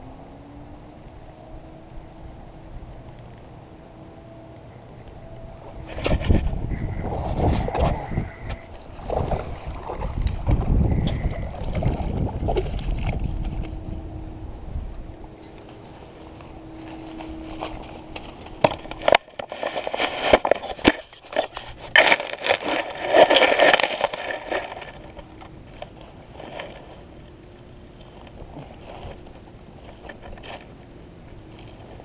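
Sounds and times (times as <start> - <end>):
dry leaves and grass crackling: 4.6 - 14.0, 15.2 - 32.0.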